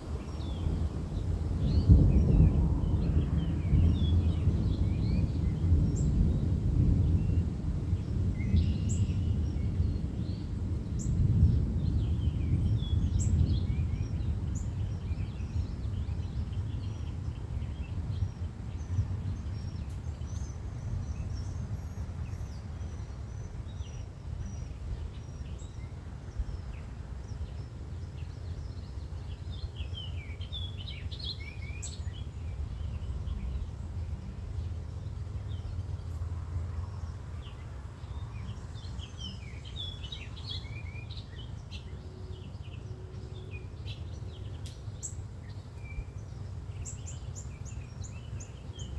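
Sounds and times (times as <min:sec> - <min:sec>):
low uneven rumble: 0:00.0 - 0:48.9.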